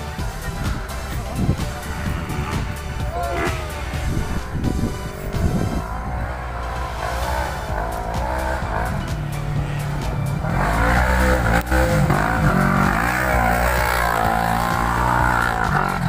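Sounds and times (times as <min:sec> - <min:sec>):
buggy engine revving: 0:00.0 - 0:16.0.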